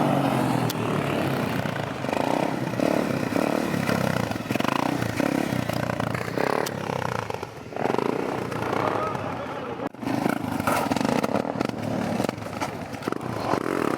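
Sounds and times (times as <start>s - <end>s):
motorbike engines revving: 0.0s - 13.9s.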